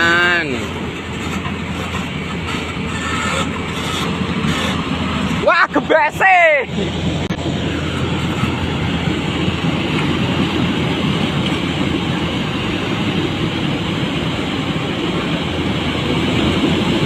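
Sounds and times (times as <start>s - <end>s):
rushing floodwater rumble: 0.0s - 17.0s.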